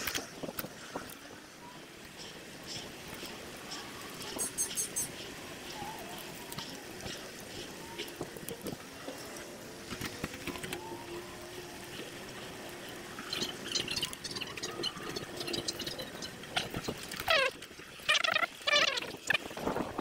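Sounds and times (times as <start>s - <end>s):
bicycle rattles and clicks: 0.0s - 1.4s, 2.1s - 20.0s
wind and tyre noise: 0.0s - 20.0s.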